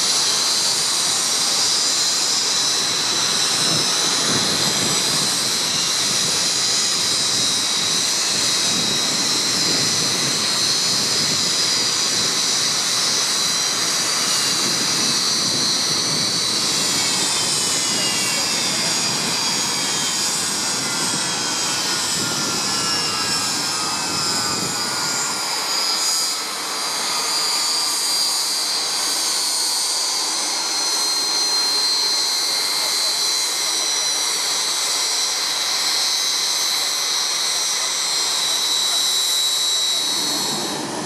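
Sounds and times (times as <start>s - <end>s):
jet turbine whine: 0.0s - 41.0s
lower whine gliding down: 0.0s - 41.0s.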